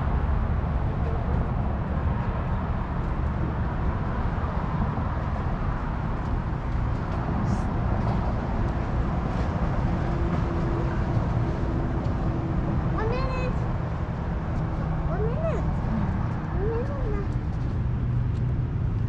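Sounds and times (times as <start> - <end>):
vehicle rumbling: 0.0 - 19.0.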